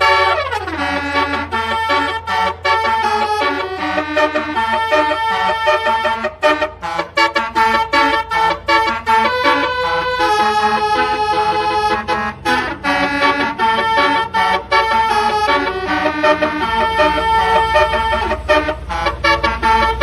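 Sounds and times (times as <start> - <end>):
musical bus horn melody: 0.0 - 20.0.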